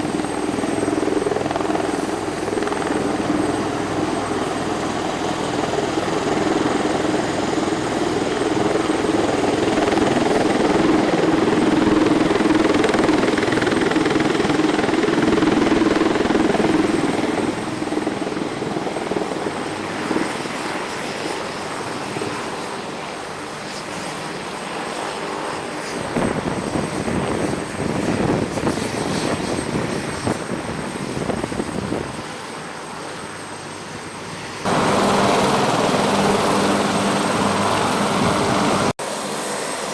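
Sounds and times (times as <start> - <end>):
helicopter turbine and rotor noise: 0.0 - 39.9.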